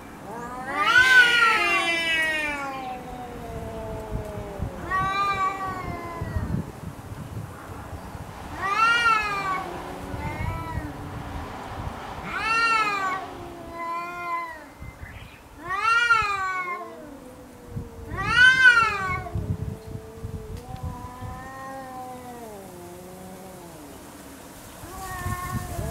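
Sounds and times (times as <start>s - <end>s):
cats yowling: 0.0s - 6.8s, 8.4s - 11.3s, 12.1s - 25.9s
cat growling: 0.2s - 6.8s, 8.4s - 14.7s, 15.6s - 25.9s.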